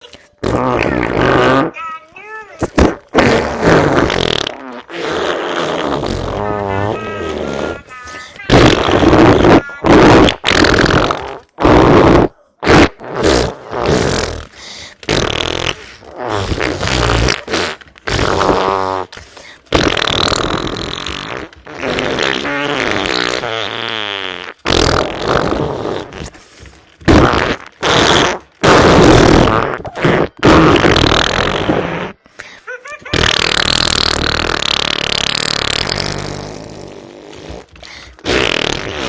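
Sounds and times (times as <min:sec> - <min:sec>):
wet fart sounds: 0:00.0 - 0:01.8, 0:02.6 - 0:39.0.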